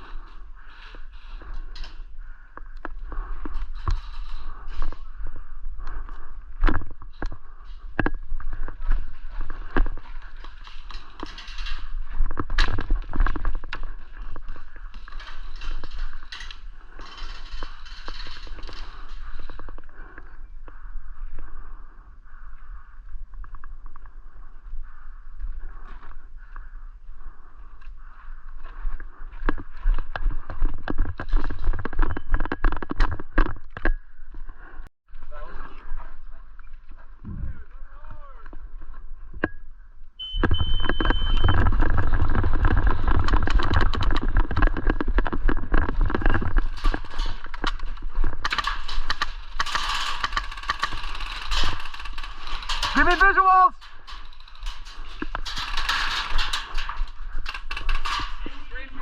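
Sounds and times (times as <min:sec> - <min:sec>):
airsoft gear clicks and knocks: 0:00.0 - 0:21.5, 0:27.4 - 0:34.8, 0:40.4 - 0:59.0.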